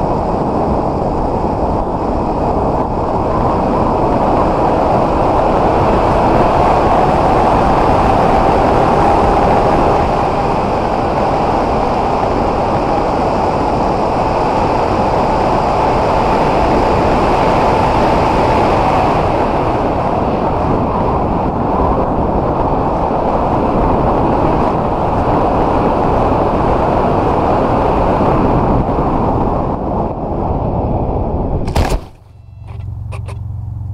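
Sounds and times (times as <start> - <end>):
wind rush in flight: 0.0 - 33.9.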